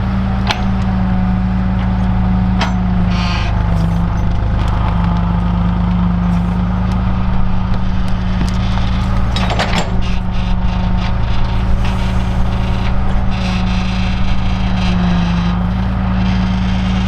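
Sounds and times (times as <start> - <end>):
digging machine engine running: 0.0 - 17.0.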